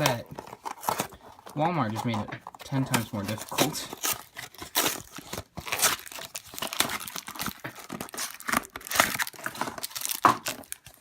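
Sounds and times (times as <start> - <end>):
card wrappers crinkling and tearing: 0.0 - 11.0.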